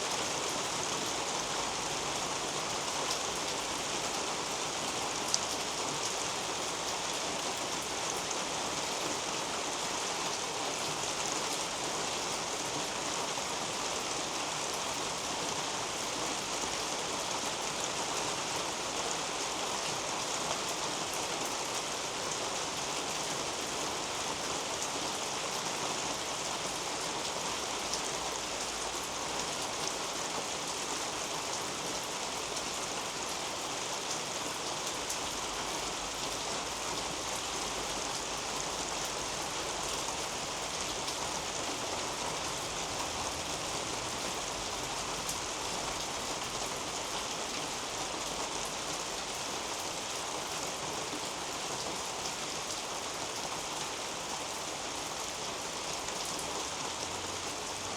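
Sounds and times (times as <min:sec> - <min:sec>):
rain falling on leaves: 0:00.0 - 0:57.9.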